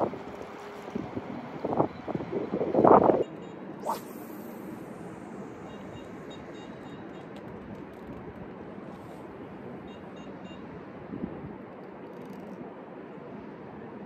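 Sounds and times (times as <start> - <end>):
outdoor background rush: 0.0 - 14.0.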